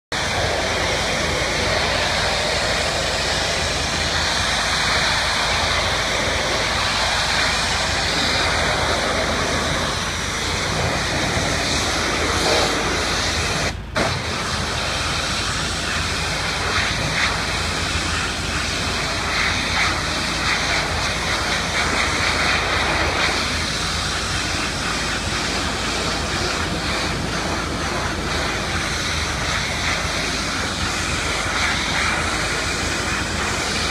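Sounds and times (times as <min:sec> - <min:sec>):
pressure washer spraying siding: 0:00.1 - 0:33.9.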